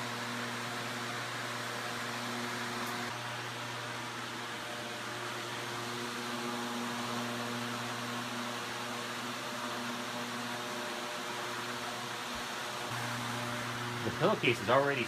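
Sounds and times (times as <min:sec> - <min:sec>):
electric fan air rush: 0:00.0 - 0:15.0
fan motor hum: 0:00.0 - 0:15.0.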